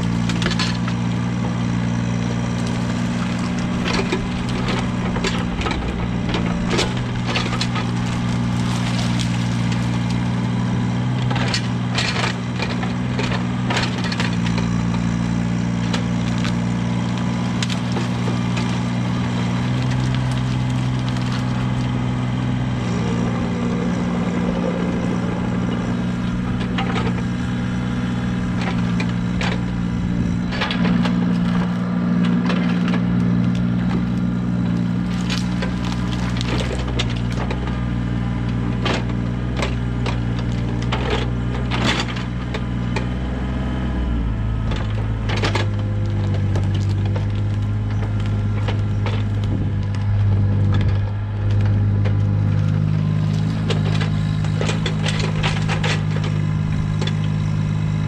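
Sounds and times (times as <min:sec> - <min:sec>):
cracking and crunching: 0:00.0 - 0:58.0
engine running steadily: 0:00.0 - 0:58.0.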